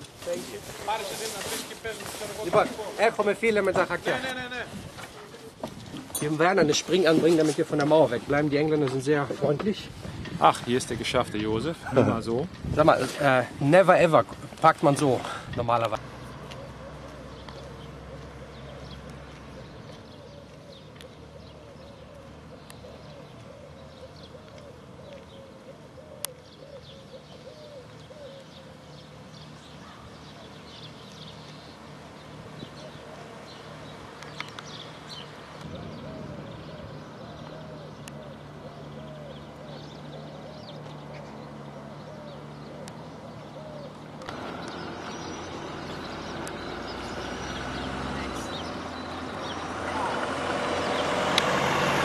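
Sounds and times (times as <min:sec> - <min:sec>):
birds chirping and calling: 0:00.0 - 0:52.0
road traffic hum: 0:00.0 - 0:52.0.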